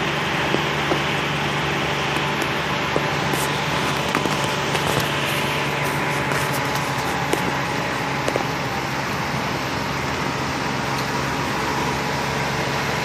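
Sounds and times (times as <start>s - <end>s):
heavy rain on road: 0.0s - 13.0s.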